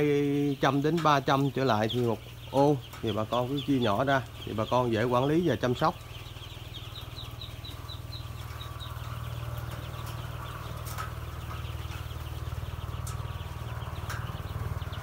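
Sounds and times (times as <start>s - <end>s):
ducklings peeping: 0.0s - 15.0s
steady low hum: 0.0s - 15.0s.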